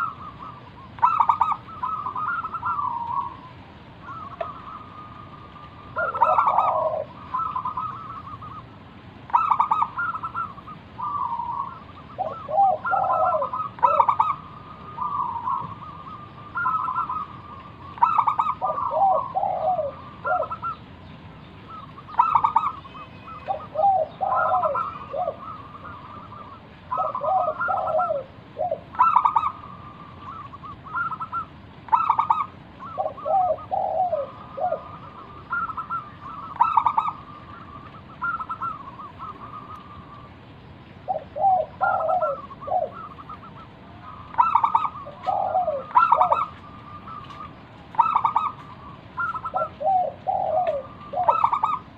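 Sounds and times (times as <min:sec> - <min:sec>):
dove cooing: 0:00.0 - 0:21.0, 0:21.6 - 0:51.9.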